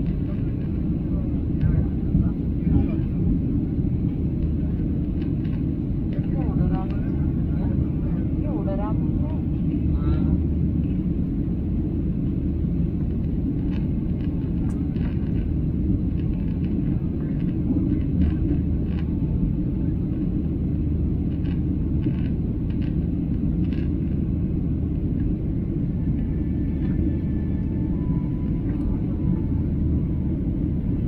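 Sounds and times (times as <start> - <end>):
jet airliner cabin drone: 0.0 - 31.0.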